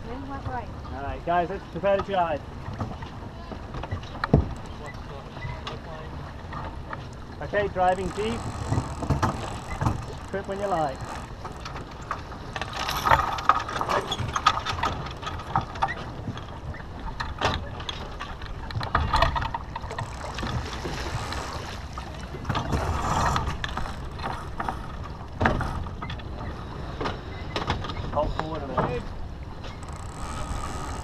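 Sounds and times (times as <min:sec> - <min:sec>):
wind and water rushing: 0:00.0 - 0:31.0
rigging clicks and clatter: 0:01.8 - 0:29.0.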